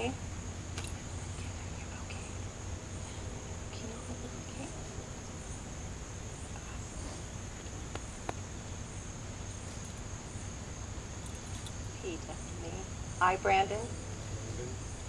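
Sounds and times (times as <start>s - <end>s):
insects trilling: 0.0s - 15.0s
low outdoor rumble: 0.0s - 15.0s.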